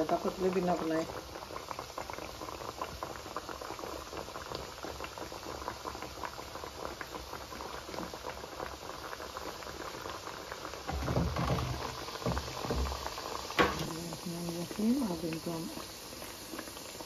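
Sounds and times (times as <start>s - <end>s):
dough frying in sizzling oil: 0.0s - 17.0s.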